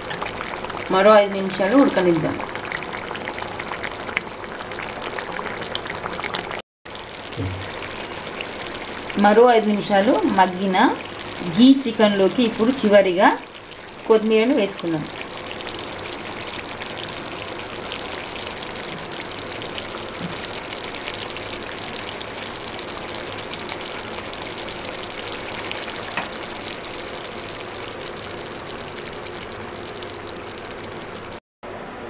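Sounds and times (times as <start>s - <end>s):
curry sizzling in a frying pan: 0.0s - 31.4s.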